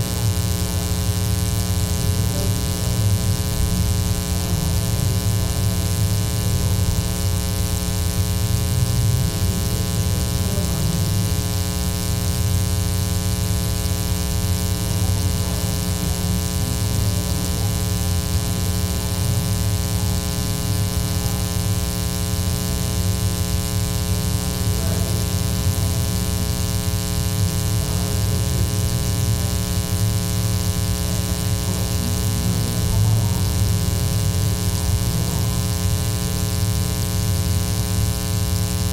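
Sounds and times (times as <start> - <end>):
faint talking: 0.0 - 38.4
electrical mains hum: 0.0 - 38.9.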